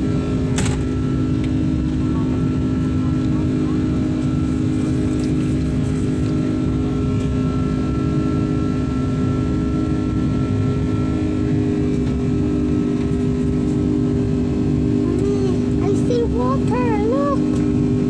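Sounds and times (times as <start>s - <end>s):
jet engines droning: 0.0s - 18.0s.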